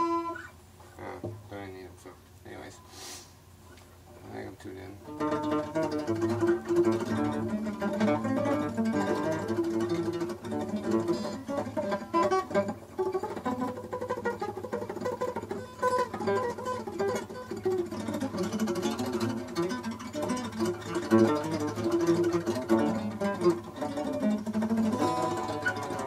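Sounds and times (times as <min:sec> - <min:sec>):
plucked string instrument notes: 0:00.0 - 0:01.8, 0:04.2 - 0:26.0.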